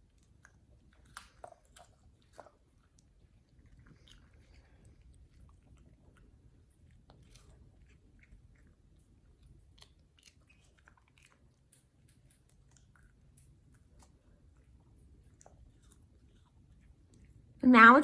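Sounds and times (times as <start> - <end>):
dog chewing crunchy treat: 0.0 - 17.6.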